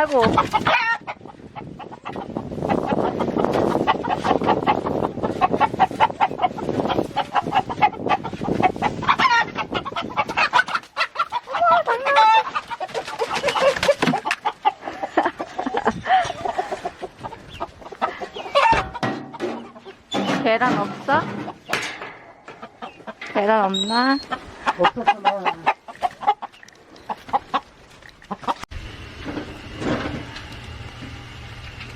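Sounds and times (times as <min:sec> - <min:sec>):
chickens clucking: 0:00.0 - 0:28.7
drawn-out chicken calls: 0:00.0 - 0:28.7.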